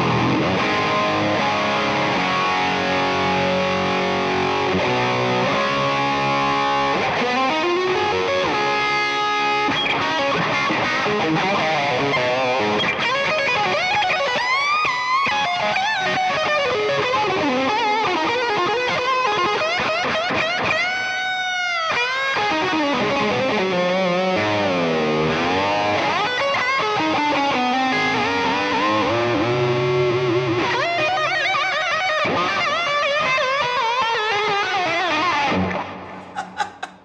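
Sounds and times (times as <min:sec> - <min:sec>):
distorted electric guitar lead: 0:00.0 - 0:36.4.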